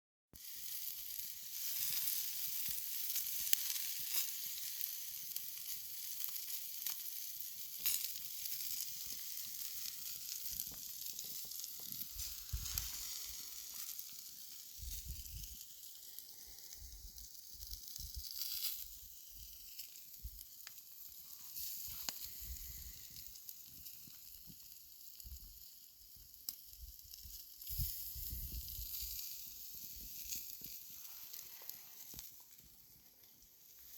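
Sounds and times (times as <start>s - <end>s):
sharp crackles: 0.4s - 24.5s, 26.5s - 33.9s
steak sizzling over fire: 0.4s - 33.9s.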